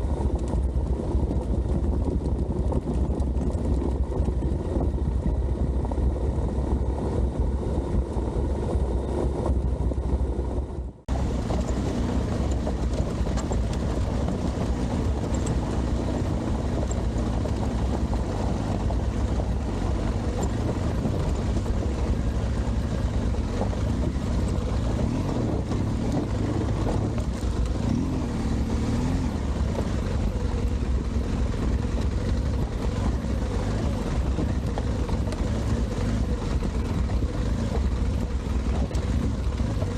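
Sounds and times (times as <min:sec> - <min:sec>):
motorcycle engine rumbling: 0:00.0 - 0:39.9
wind buffeting microphone: 0:00.0 - 0:39.9.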